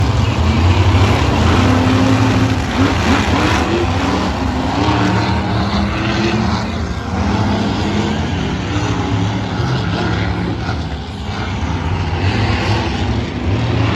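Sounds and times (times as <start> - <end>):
truck engine revving: 0.0 - 13.9.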